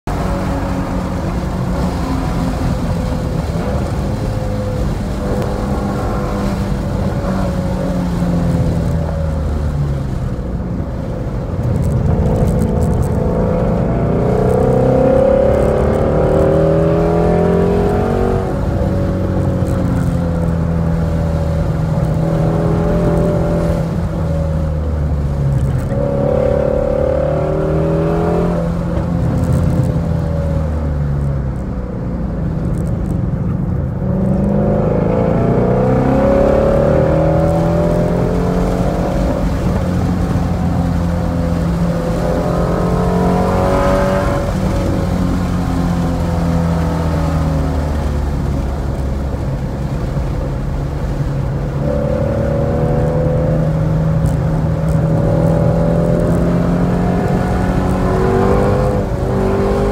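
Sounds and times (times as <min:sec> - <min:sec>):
car engine revving: 0:00.0 - 0:31.6, 0:32.4 - 0:59.9
gear change: 0:00.1 - 0:59.9.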